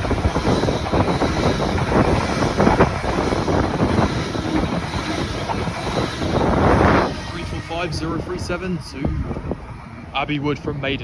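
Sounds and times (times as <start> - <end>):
wind on microphone: 0.0 - 10.1
electric train passing: 0.0 - 11.0.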